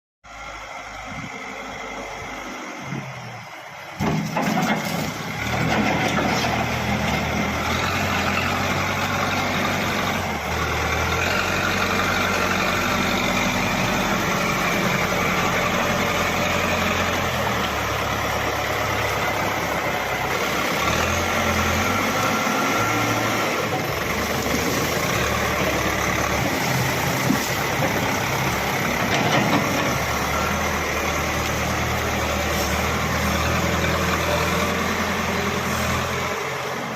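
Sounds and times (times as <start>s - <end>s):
backhoe diesel engine running: 0.3s - 36.9s.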